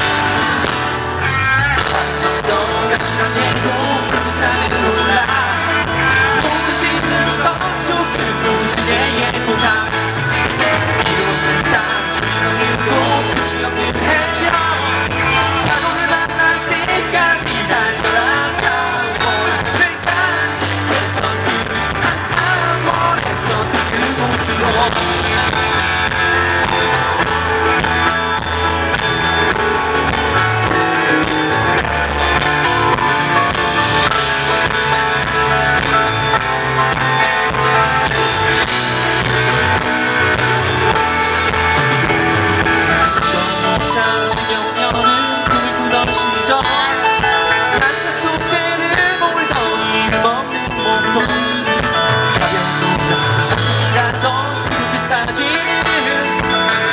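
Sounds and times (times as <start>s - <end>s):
person singing: 0.0s - 56.9s
pop-rock band playing: 0.0s - 56.9s.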